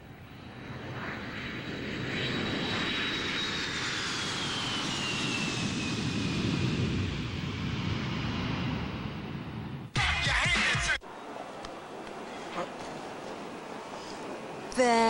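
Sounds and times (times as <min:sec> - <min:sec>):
jet airliner passing: 0:00.0 - 0:14.8.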